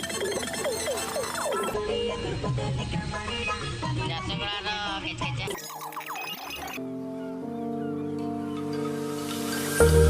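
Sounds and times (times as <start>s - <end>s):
background music: 0.0s - 5.7s, 6.5s - 10.0s.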